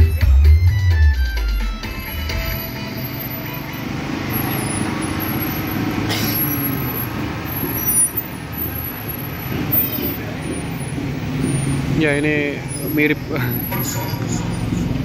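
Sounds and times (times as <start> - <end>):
large vehicle engine idling: 0.0 - 15.0.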